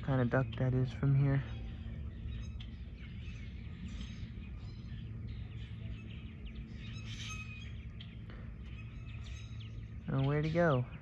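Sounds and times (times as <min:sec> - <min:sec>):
low rumble: 0:00.0 - 0:11.0
small birds chirping: 0:00.0 - 0:11.0.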